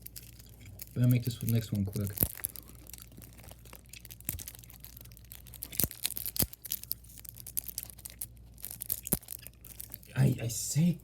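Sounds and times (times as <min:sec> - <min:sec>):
packaging crinkling and scraping: 0:00.0 - 0:10.4.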